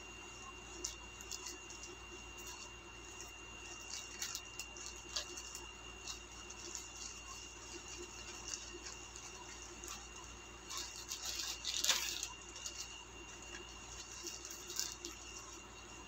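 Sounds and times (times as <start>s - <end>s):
plastic bag crinkling: 0.4s - 16.0s.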